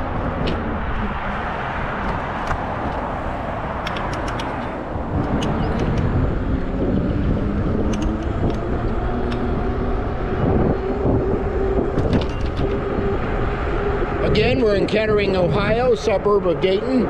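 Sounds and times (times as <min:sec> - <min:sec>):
wind and tyre rumble: 0:00.0 - 0:17.0.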